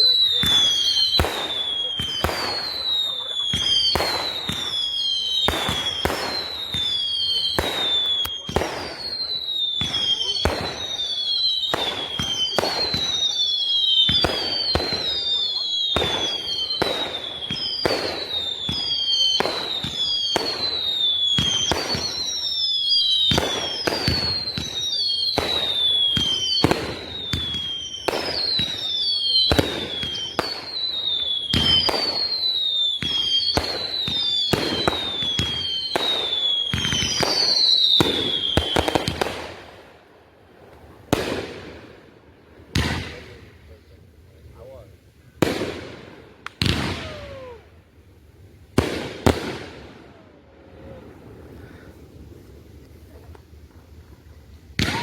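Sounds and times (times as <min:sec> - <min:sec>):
firework bangs: 0:00.0 - 0:43.8, 0:45.4 - 0:48.0, 0:48.6 - 0:54.0, 0:54.7 - 0:55.0
whistling fireworks: 0:00.0 - 0:55.0.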